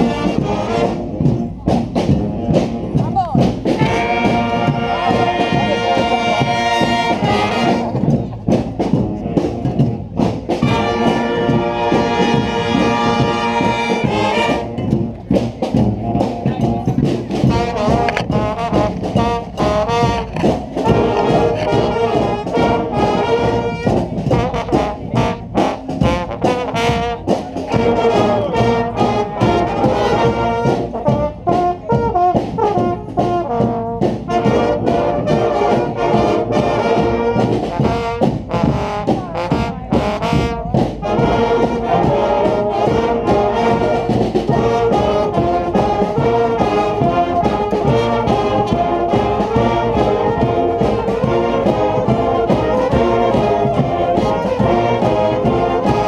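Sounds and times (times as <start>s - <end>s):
brass band playing rock tune: 0.0s - 56.0s.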